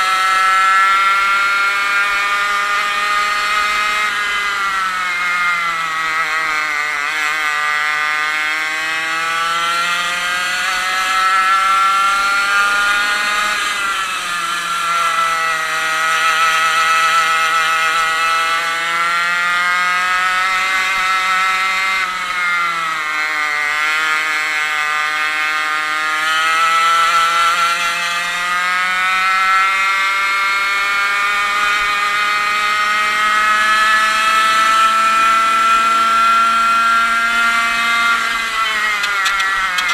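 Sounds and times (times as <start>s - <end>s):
kart engine at racing revs: 0.0s - 39.9s.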